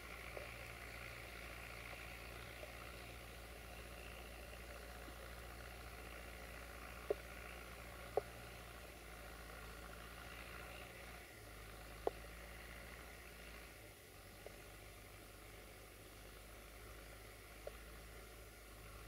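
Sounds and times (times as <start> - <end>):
distant tractor engine hum: 0.0 - 19.0.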